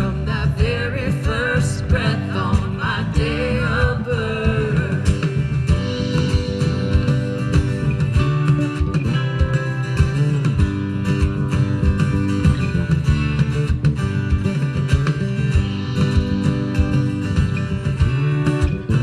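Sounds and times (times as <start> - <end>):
bass guitar: 0.0 - 19.0
drums steady beat: 0.0 - 19.0
guitars strumming and picking: 0.0 - 19.0.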